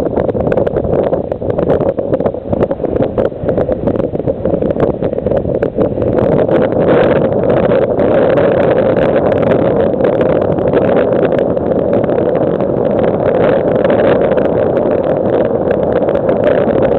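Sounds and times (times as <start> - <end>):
choppy surf: 0.0 - 16.9
water splashing crackles: 0.0 - 16.9
wind buffeting microphone: 0.0 - 16.9.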